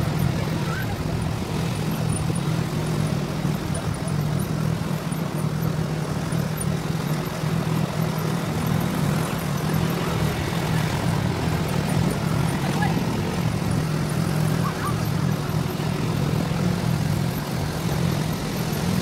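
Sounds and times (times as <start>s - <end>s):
quad bike engines droning: 0.0s - 19.0s
tyres on dirt road: 0.0s - 19.0s.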